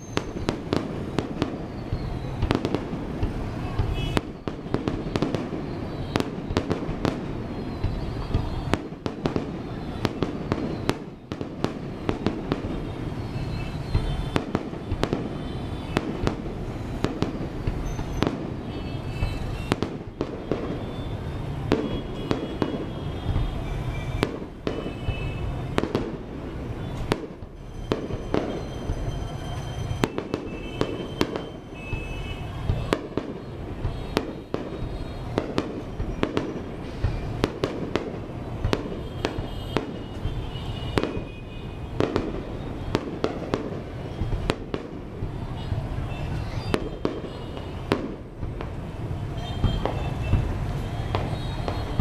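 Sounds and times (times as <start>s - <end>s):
fireworks bangs: 0.0s - 52.0s
rumble of explosions: 0.1s - 46.0s.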